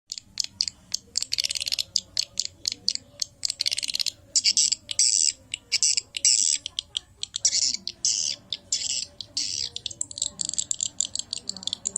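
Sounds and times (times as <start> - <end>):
swiftlet chittering trills: 0.1 - 11.9
swiftlet clicks: 0.1 - 11.9.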